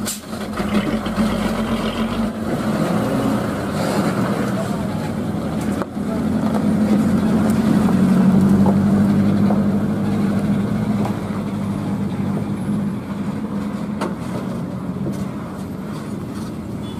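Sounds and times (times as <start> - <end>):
diesel truck engine under load: 0.0 - 16.9.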